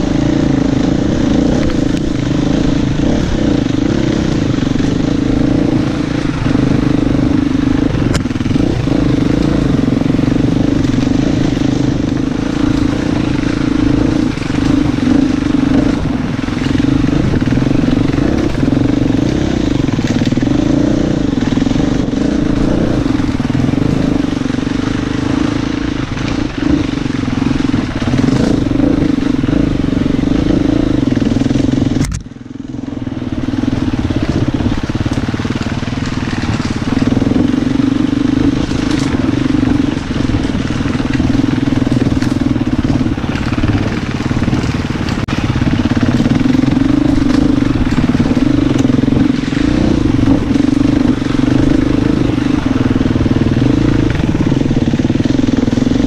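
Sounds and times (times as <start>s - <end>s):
motorcycle engine under throttle: 0.0s - 56.0s.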